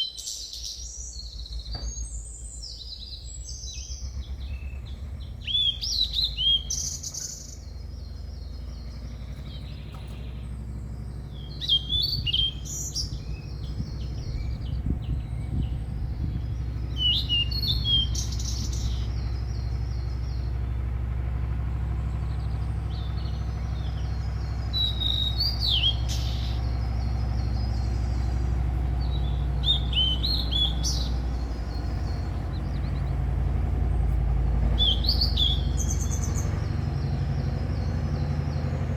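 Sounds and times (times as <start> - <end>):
small birds chirping: 0.0 - 38.9
steady low rumble: 0.1 - 38.9.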